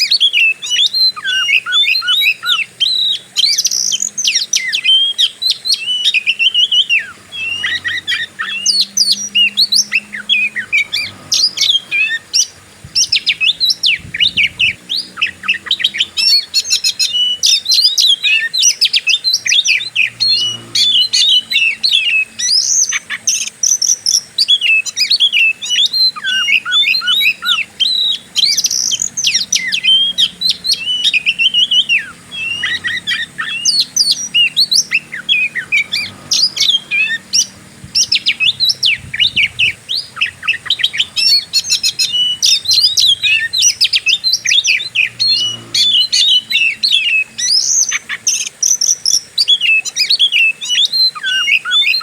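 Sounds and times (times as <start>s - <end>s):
bird singing fast chirps: 0.0s - 52.0s.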